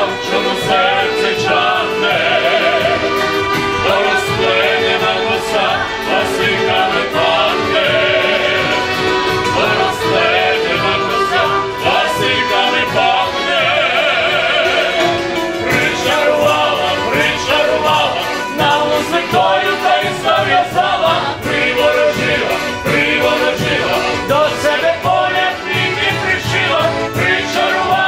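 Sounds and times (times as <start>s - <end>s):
accordion playing: 0.0s - 28.0s
men singing folk song: 0.0s - 28.0s
steady beat: 0.2s - 28.0s.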